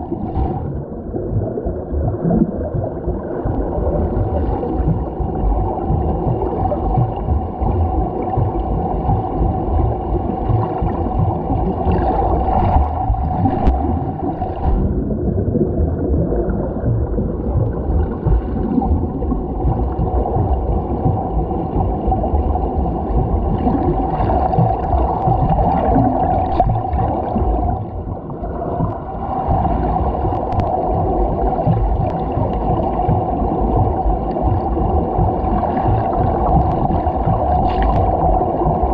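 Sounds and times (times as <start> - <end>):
muffled underwater churning and bubbling: 0.0 - 38.9.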